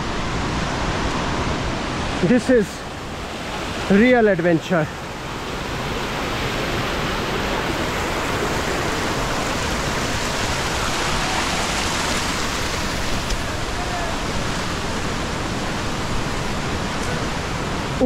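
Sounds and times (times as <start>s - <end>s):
water cascading over rocks: 0.0s - 18.0s.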